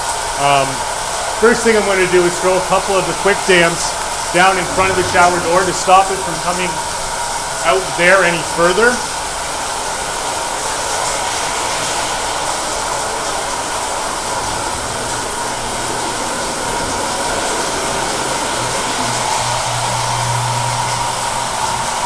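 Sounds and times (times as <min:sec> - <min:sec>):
shower running hard: 0:00.0 - 0:22.0.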